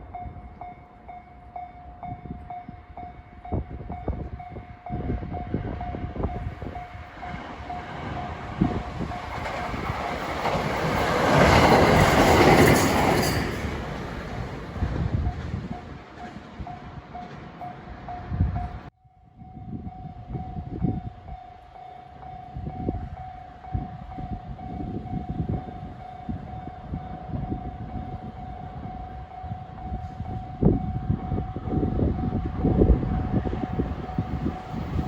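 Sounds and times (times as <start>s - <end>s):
train rumbling past: 0.0s - 18.9s, 19.9s - 35.0s.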